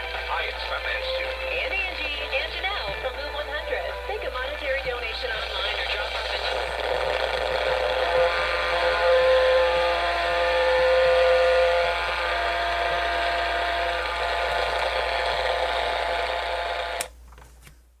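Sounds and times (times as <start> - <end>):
loud radio static hiss: 0.0 - 17.1.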